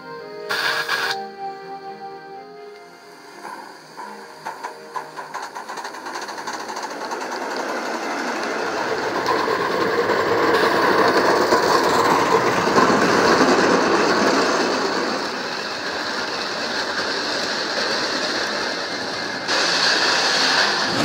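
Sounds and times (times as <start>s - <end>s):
model train wheels rattling on rails: 3.4s - 21.0s.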